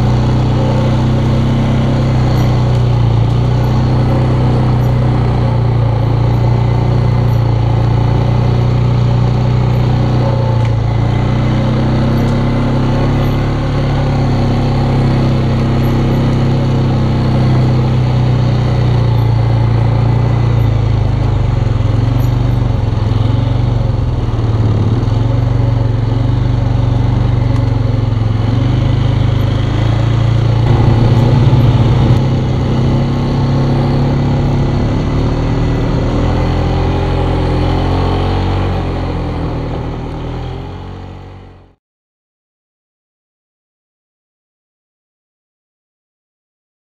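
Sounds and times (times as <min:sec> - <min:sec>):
quad bike engine running: 0:00.0 - 0:41.6.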